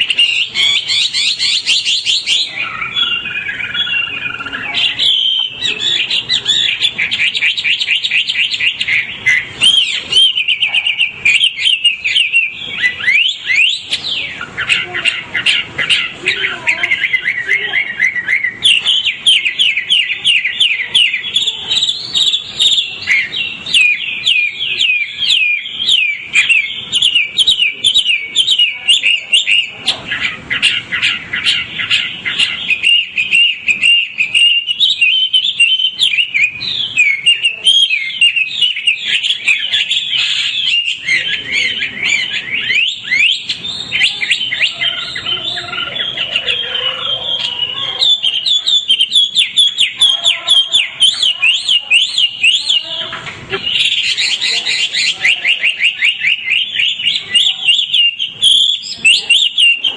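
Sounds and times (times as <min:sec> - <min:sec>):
songbird singing chirps and whistles: 0:00.0 - 0:59.9.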